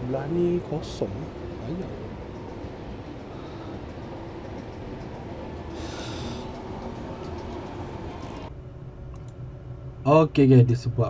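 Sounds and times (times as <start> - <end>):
escalator rumbling: 0.0 - 10.9.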